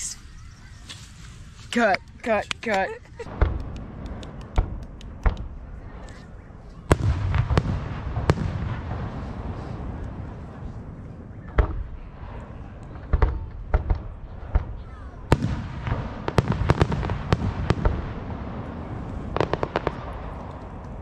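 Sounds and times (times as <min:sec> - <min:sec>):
fireworks bangs: 0:01.8 - 0:21.0
low rumble: 0:03.0 - 0:21.0.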